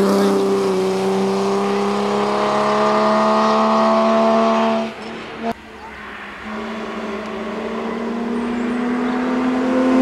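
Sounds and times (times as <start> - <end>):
race car engine accelerating: 0.0 - 5.6, 6.4 - 10.0.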